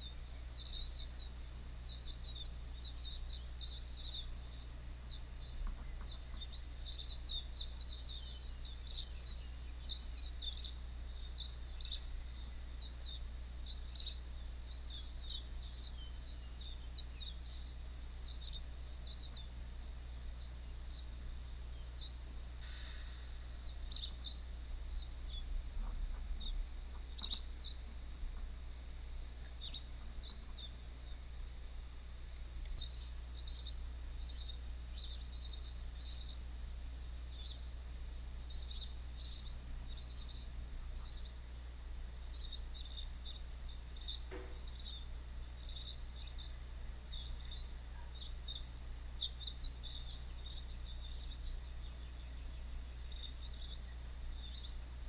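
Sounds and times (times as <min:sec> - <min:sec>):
birds chirping: 0:00.0 - 0:55.0
steady low hum: 0:00.0 - 0:55.0.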